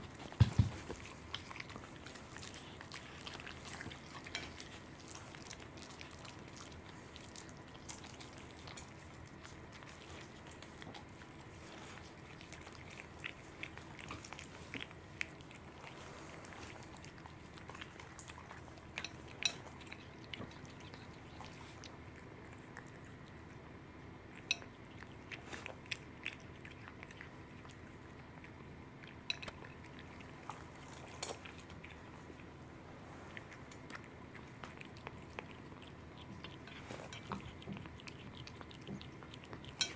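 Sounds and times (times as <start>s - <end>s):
cat chewing: 0.0s - 39.9s
faint steady hum: 0.0s - 39.9s.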